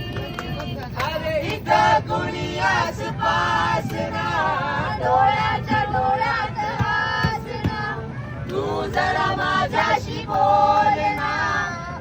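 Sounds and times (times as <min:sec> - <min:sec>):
men and women singing together: 0:01.0 - 0:12.0.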